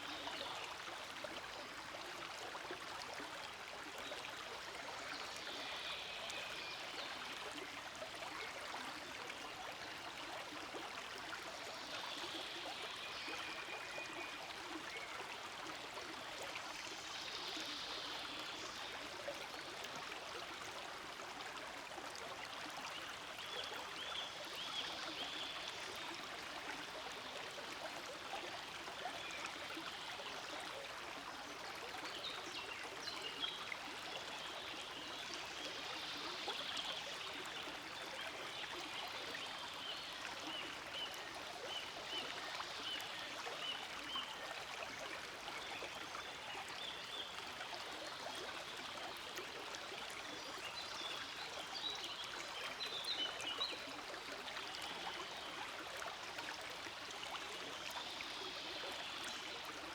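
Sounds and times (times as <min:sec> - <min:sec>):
stream rushing and trickling: 0:00.0 - 0:59.9.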